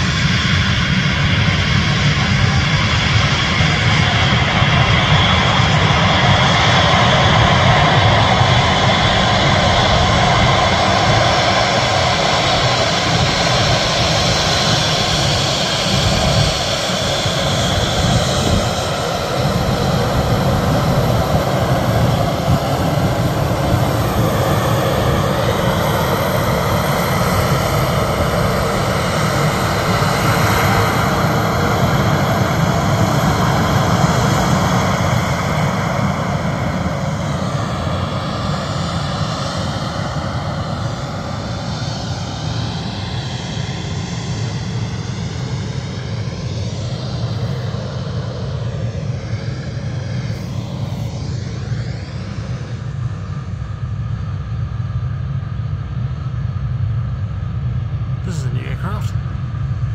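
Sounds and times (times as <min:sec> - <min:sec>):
airliner engines passing: 0:00.0 - 0:59.9.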